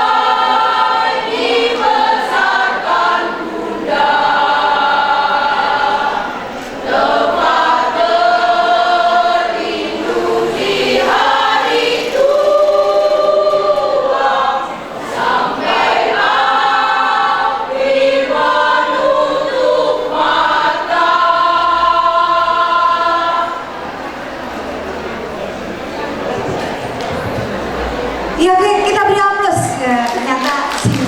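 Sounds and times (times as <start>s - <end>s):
choir singing: 0.0s - 28.4s.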